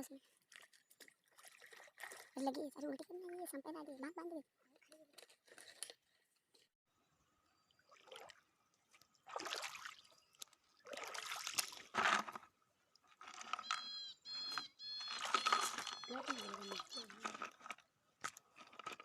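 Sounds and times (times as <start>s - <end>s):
water sloshing and splashing: 0.0s - 6.6s, 7.6s - 13.9s, 14.5s - 19.0s.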